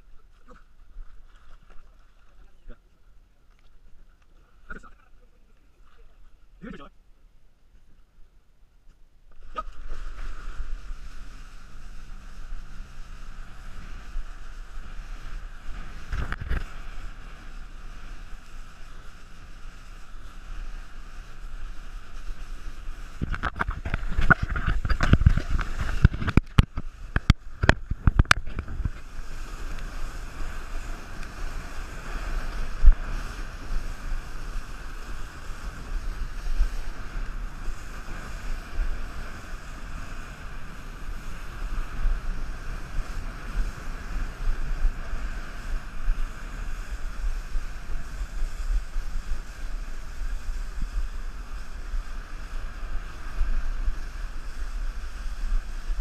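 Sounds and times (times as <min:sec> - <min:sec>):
water spray: 0:09.3 - 0:56.0.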